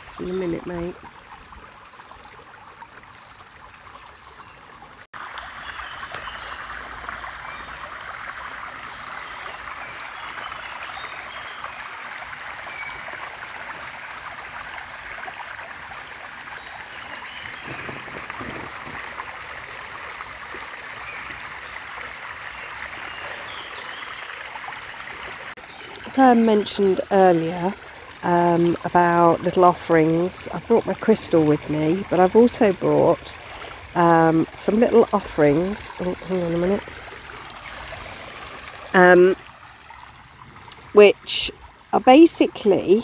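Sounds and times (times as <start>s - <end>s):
forest stream running: 0.0s - 43.0s.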